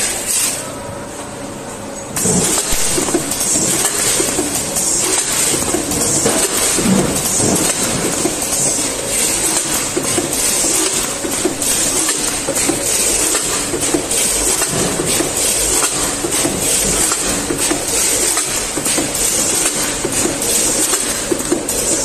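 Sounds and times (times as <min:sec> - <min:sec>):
machine clatter: 0:02.1 - 0:22.0.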